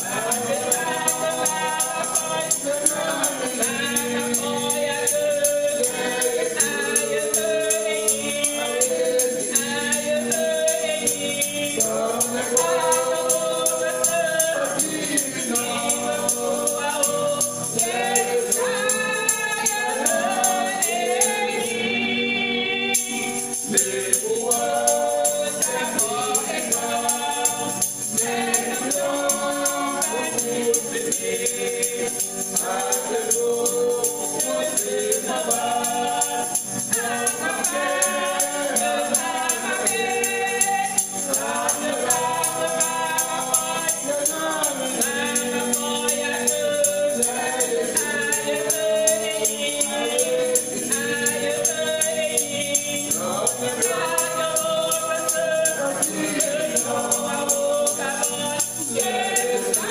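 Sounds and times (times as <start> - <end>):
tambourine jingles: 0.0 - 59.9
voices singing a hymn: 0.0 - 59.9.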